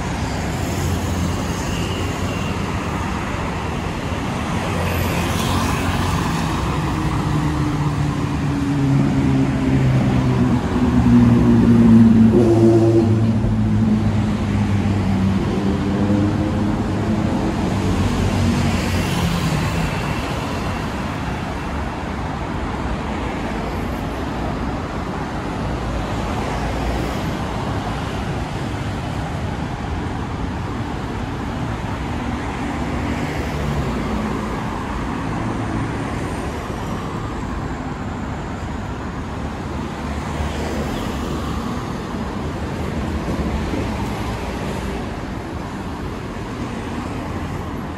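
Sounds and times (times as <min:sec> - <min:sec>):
heavy vehicle engine hum: 0:00.0 - 0:47.9
road traffic engines and tyres: 0:00.0 - 0:47.9.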